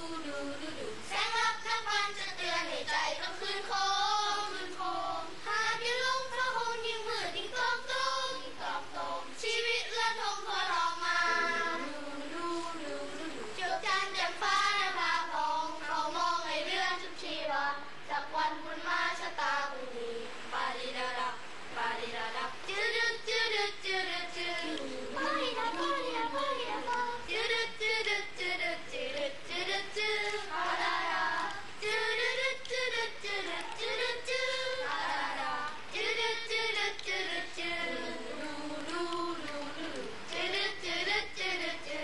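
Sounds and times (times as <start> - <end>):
boys' choir singing: 0.0 - 42.0.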